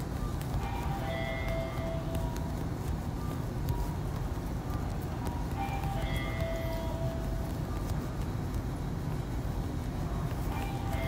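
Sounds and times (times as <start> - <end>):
tram cabin hum and rumble: 0.0 - 11.0.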